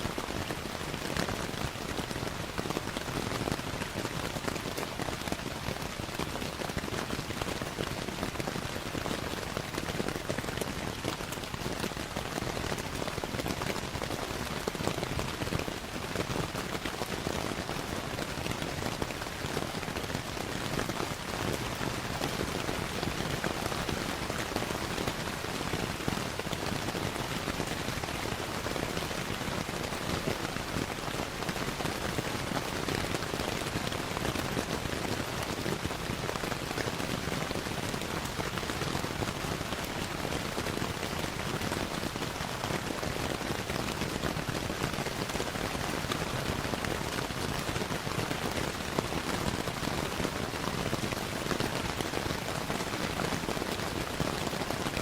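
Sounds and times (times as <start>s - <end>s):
rain pattering on a surface: 0.0s - 55.0s.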